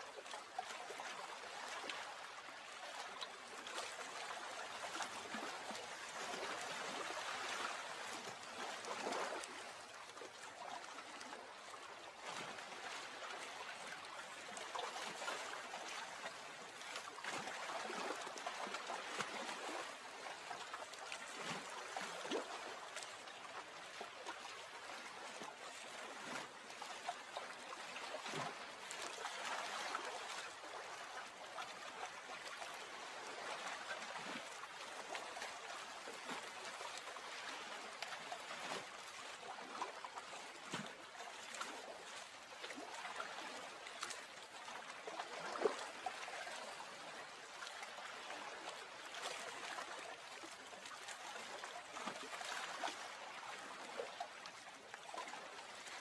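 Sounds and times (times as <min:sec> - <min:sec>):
water gently lapping: 0:00.0 - 0:56.0.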